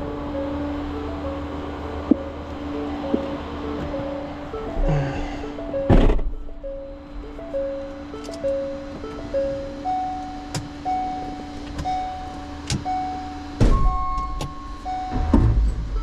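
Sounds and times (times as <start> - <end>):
melody over low drone: 0.0 - 16.0.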